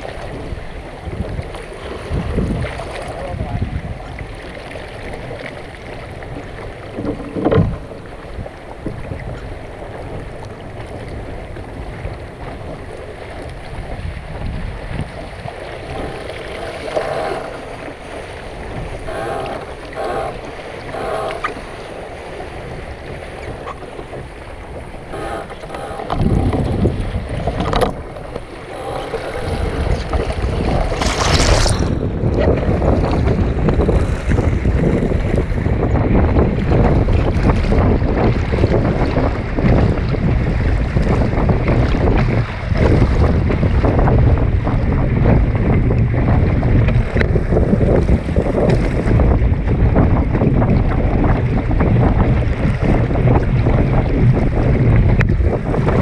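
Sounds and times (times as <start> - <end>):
water rushing around boat: 0.0 - 56.0
wind buffeting microphone: 0.0 - 56.0.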